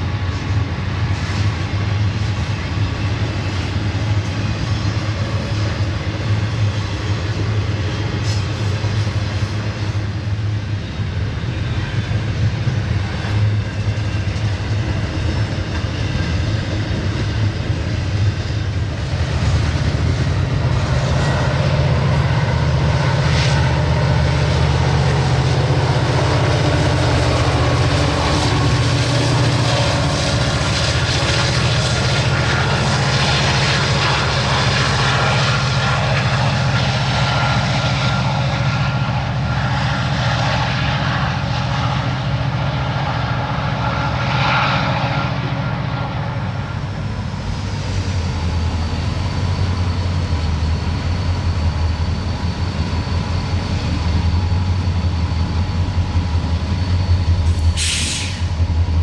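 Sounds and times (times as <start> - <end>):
diesel locomotive engine drone: 0.0 - 59.0
rail noise: 0.0 - 59.0.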